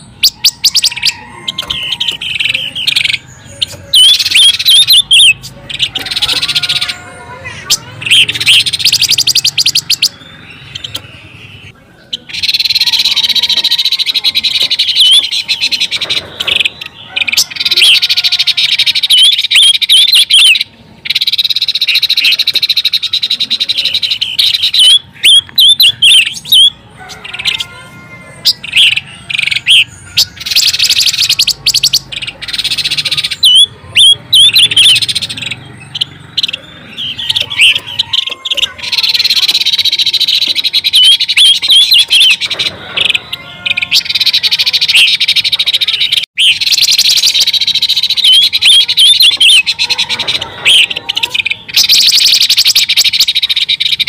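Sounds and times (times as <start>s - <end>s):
high-pitched bird chirps: 0.0s - 54.0s.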